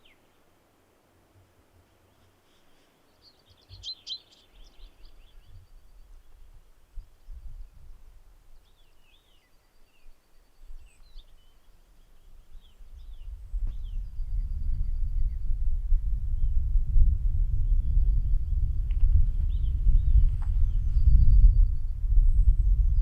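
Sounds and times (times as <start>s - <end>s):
small birds chirping: 0.0s - 0.5s, 2.0s - 15.5s, 17.6s - 23.0s
wind rumbling on microphone: 3.5s - 9.3s, 10.0s - 23.0s.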